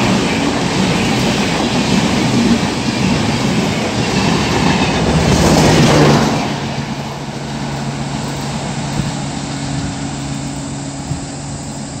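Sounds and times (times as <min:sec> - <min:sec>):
low train rumble and hum: 0:00.0 - 0:12.0
train rushing past: 0:00.0 - 0:12.0.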